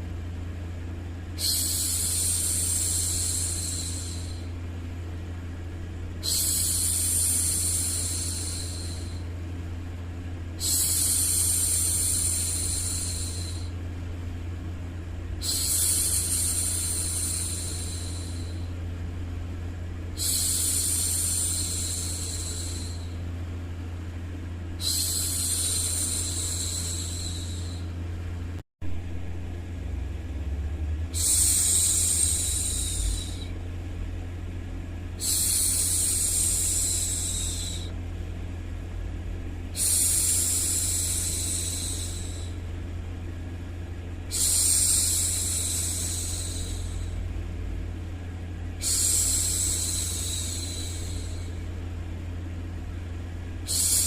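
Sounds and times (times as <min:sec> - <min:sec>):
low white noise hum: 0:00.0 - 0:54.0.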